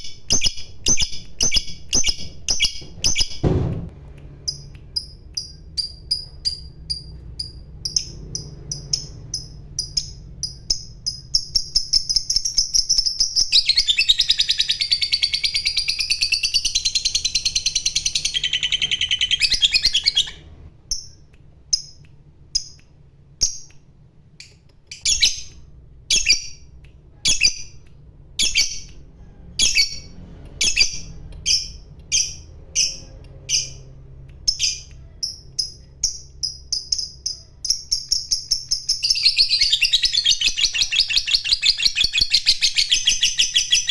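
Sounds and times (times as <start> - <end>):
lovebird chirping and trilling: 0.0 - 3.4, 4.4 - 22.8, 24.4 - 43.9.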